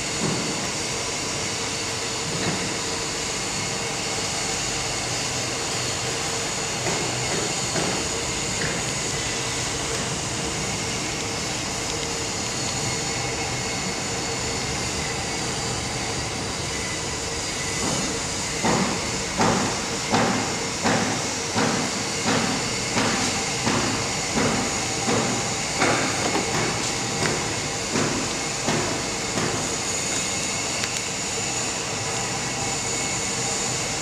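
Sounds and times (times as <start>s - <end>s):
machinery hum and hiss: 0.0s - 34.0s.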